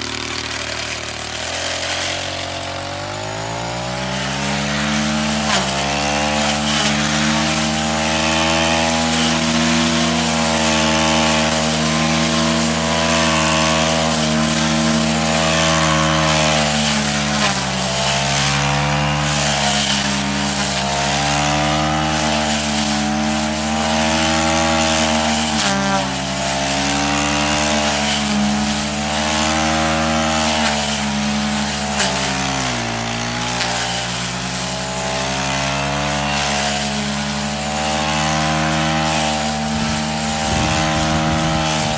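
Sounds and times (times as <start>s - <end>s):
brush cutter engine mowing grass: 0.0s - 41.9s.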